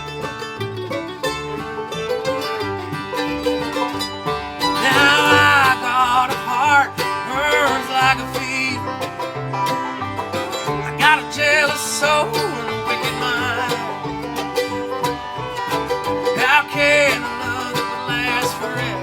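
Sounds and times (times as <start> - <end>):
banjo picking: 0.0 - 19.0
guitar picking: 0.0 - 19.0.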